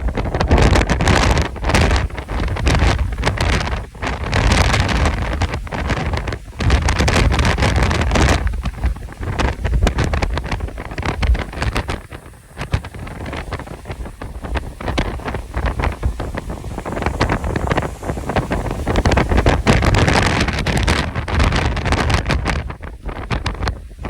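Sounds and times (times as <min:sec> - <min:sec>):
wind gusts buffeting microphone: 0:00.0 - 0:24.0.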